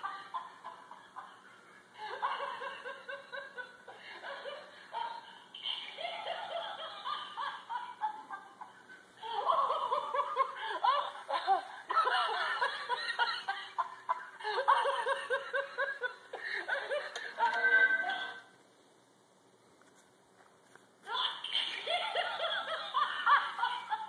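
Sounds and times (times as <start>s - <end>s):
toy playing recorded laughter: 0.0s - 18.5s, 21.1s - 24.0s.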